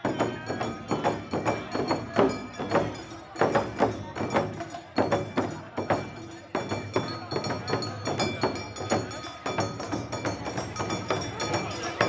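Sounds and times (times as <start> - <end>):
taiko drums beating: 0.0 - 12.0.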